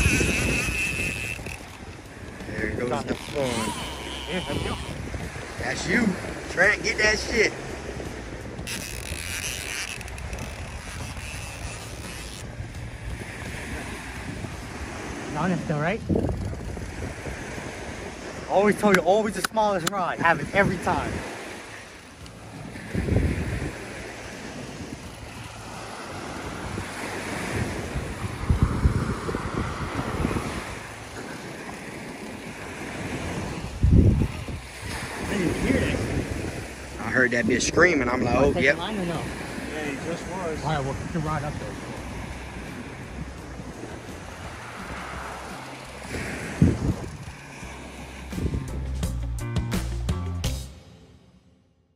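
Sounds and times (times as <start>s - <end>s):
fishing reel ratchet buzz: 0.0s - 19.9s, 20.8s - 37.8s, 41.8s - 49.2s
surf rumble: 0.0s - 50.0s
wind on microphone: 0.0s - 50.2s.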